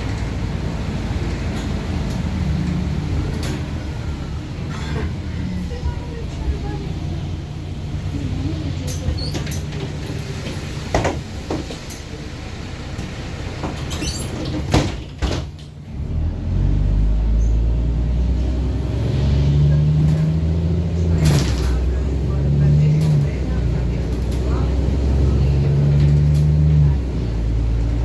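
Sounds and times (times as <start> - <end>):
bus diesel engine: 0.0 - 28.0.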